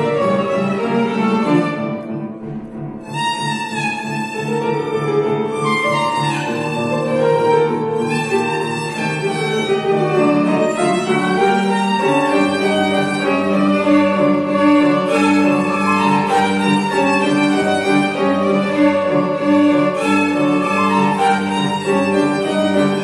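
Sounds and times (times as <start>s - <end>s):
piano accompaniment: 0.0s - 23.0s
violin melody: 0.0s - 23.0s.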